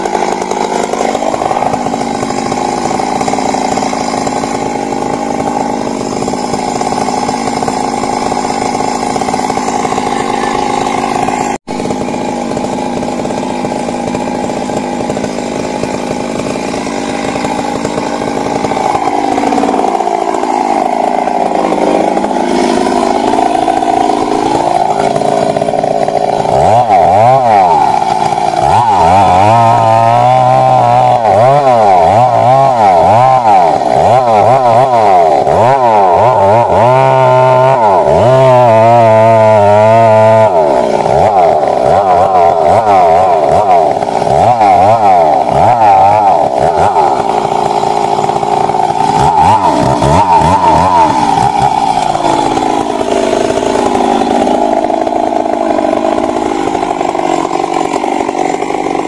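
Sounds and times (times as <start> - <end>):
chainsaw cutting into tree: 0.0 - 59.0.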